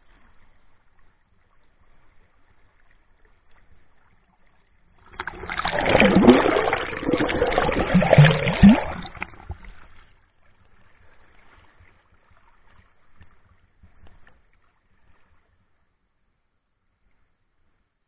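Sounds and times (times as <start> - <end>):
water sloshing and splashing: 0.0 - 15.5.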